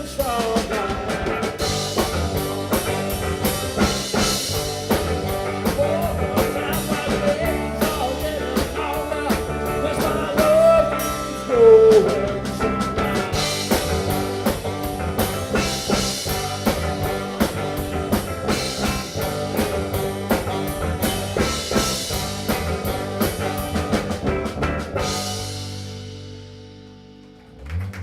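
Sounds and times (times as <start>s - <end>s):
live rock band playing: 0.0s - 27.8s.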